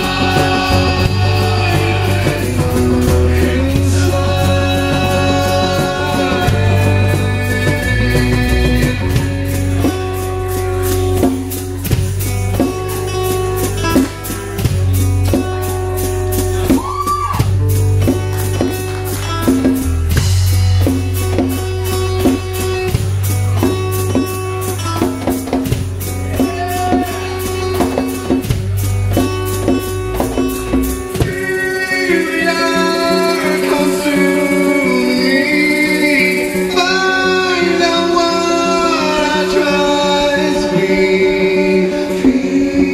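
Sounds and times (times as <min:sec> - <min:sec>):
percussion beat: 0:00.0 - 0:37.4
electric bass: 0:00.0 - 0:42.9
strummed acoustic guitars: 0:00.0 - 0:42.9.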